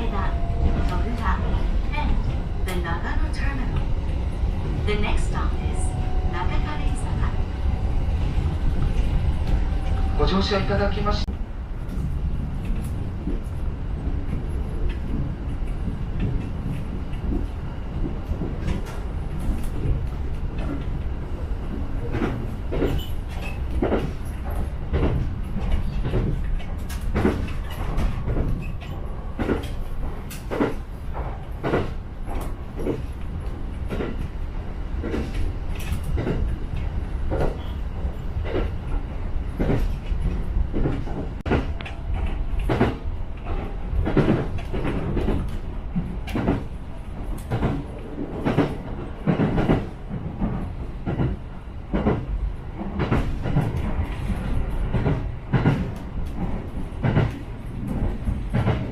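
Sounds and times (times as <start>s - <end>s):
train running low rumble: 0.0s - 58.9s.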